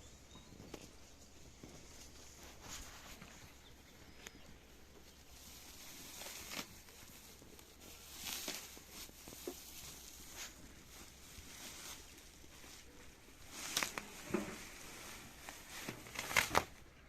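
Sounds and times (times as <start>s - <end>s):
faint rustling: 0.0s - 17.0s.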